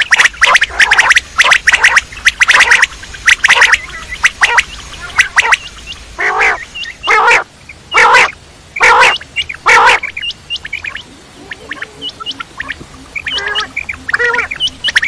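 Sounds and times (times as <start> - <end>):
quail calling: 0.0 - 15.0.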